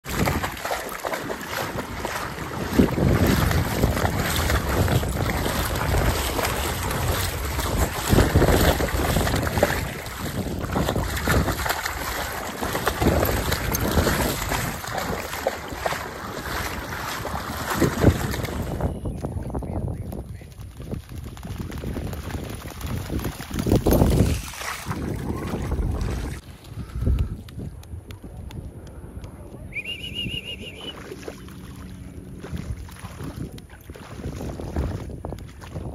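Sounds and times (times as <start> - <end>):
dog splashing through water: 0.0 - 18.9, 20.8 - 26.4, 30.8 - 35.9
wind gusting on microphone: 0.0 - 35.9.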